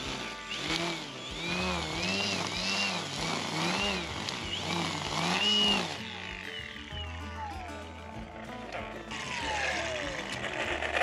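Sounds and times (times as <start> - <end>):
engine revving in surges: 0.0 - 11.0
music: 0.0 - 11.0.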